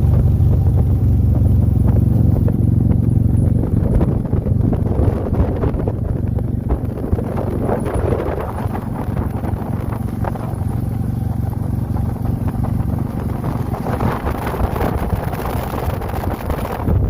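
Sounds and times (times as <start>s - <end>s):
motorcycle engine droning: 0.0s - 17.0s
road and air noise: 0.0s - 17.0s.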